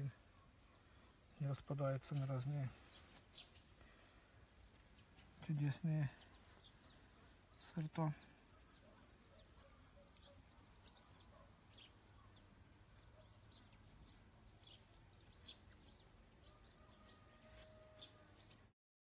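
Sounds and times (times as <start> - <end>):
small birds chirping: 0.0 - 18.7.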